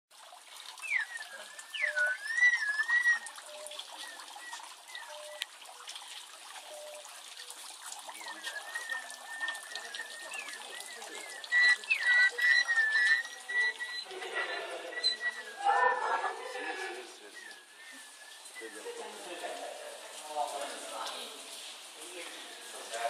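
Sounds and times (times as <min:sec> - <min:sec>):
water-driven whistles warbling: 0:00.1 - 0:21.0
water trickling: 0:00.1 - 0:23.0.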